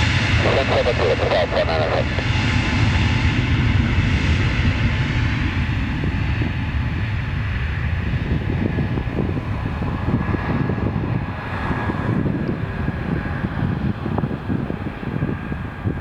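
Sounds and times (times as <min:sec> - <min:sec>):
jet engines deep rumble: 0:00.0 - 0:16.0.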